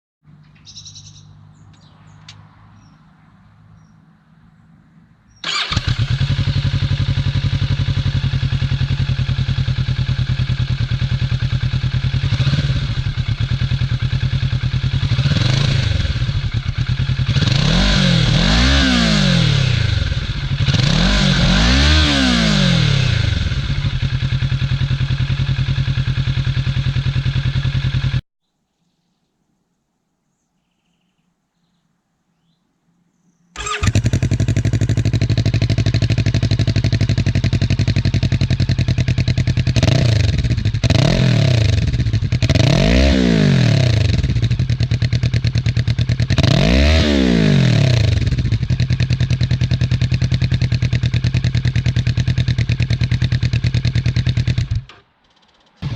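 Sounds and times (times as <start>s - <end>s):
motorcycle engine idling and revving: 5.3s - 28.2s, 33.6s - 55.9s.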